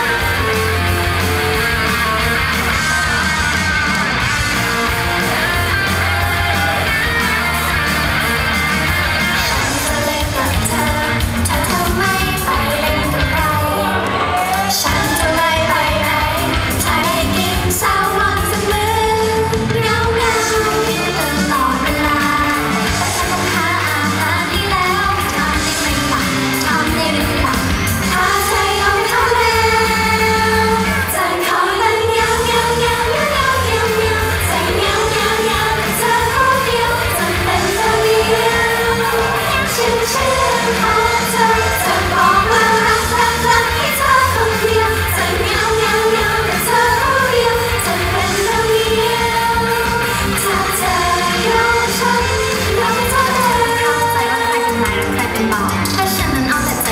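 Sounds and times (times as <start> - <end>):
upbeat pop song over loudspeakers: 0.0 - 56.9
young women singing: 9.2 - 56.9.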